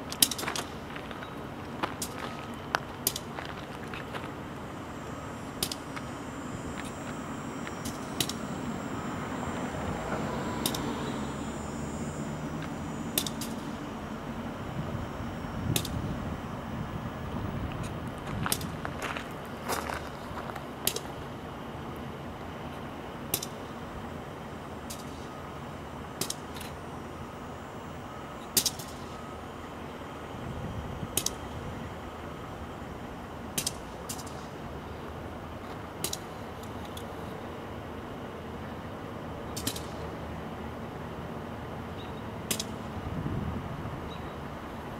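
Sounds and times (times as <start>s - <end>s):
distant diesel locomotive idling: 0.0s - 44.9s.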